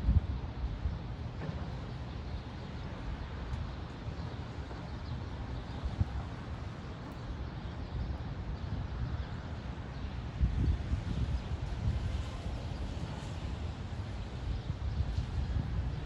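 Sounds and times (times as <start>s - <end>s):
wind gusting against microphone: 0.0s - 1.4s, 2.8s - 16.0s.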